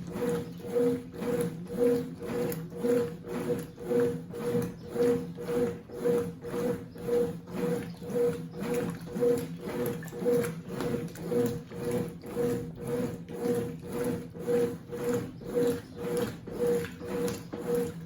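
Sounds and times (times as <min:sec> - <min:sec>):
washing machine motor whirring: 0:00.0 - 0:18.0.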